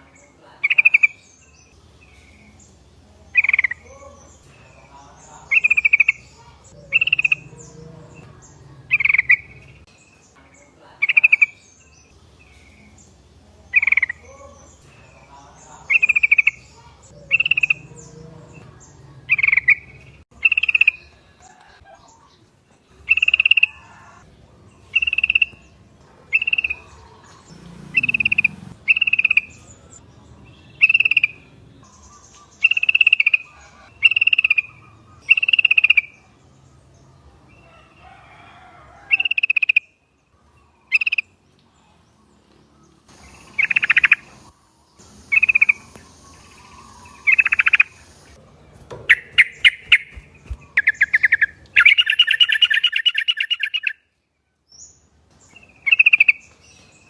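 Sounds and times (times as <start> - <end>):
birds chattering calls: 0.0 - 57.0.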